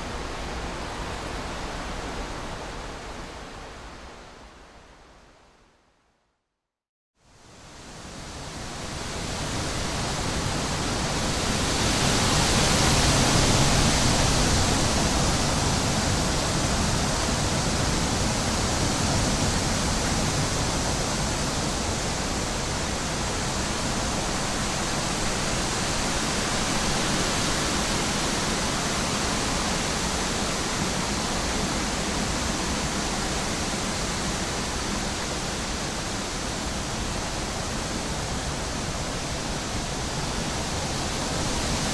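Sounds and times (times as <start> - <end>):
wind blowing through trees: 0.0 - 5.8, 7.2 - 41.9.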